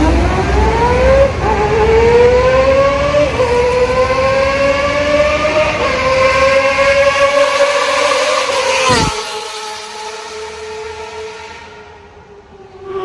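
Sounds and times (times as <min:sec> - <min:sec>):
motorcycle revving in tunnel: 0:00.0 - 0:13.0.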